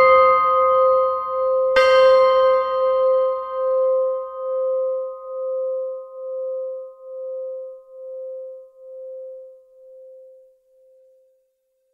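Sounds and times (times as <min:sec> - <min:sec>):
large bell humming: 0:00.0 - 0:10.4.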